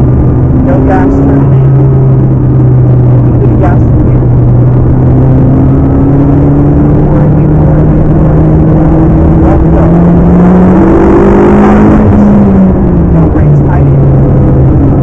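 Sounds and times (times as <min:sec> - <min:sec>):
car engine accelerating: 0:00.0 - 0:15.0
road and wind noise: 0:00.0 - 0:15.0.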